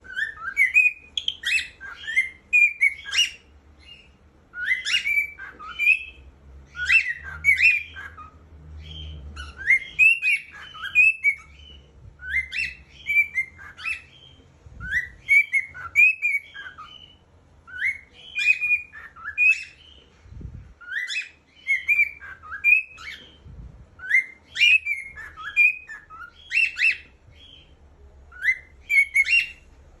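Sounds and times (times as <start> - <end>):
cockatiel whistling chirps: 0.0 - 20.0, 20.8 - 23.4, 24.0 - 27.6, 28.3 - 29.7.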